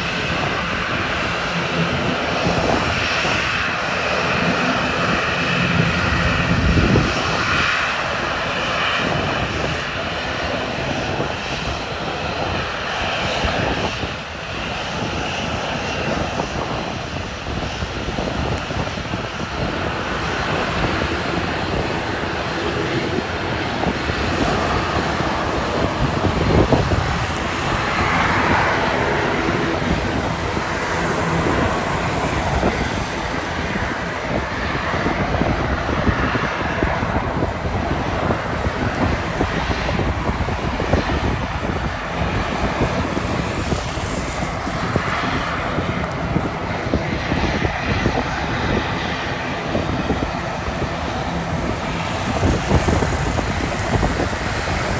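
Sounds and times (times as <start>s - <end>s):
jet engines rushing noise: 0.0s - 54.9s.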